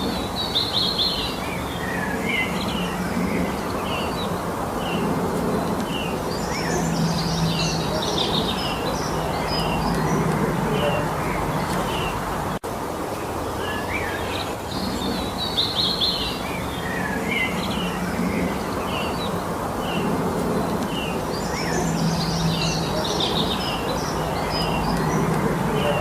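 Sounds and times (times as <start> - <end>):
songbirds chirping and singing: 0.0 - 12.6, 13.2 - 26.0
steady background hiss: 0.0 - 26.0.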